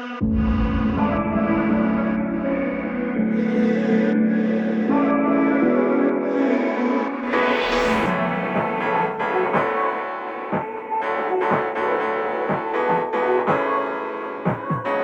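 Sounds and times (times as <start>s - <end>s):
piano background music: 0.0s - 15.0s.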